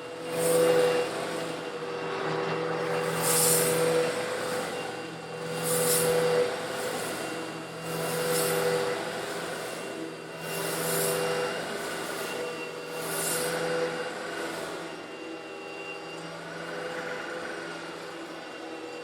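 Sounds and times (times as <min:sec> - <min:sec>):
vacuum cleaner humming: 0:00.0 - 0:19.0.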